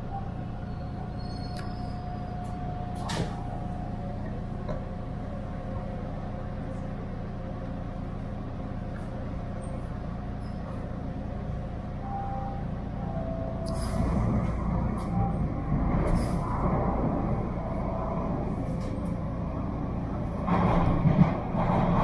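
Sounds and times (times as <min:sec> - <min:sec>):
train equipment low hum: 0:00.0 - 0:22.0.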